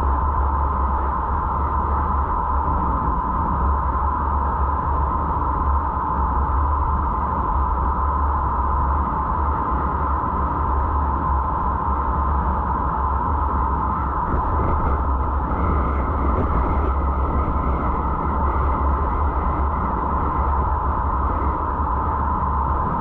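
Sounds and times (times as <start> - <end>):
constant low rumble: 0.0 - 23.0.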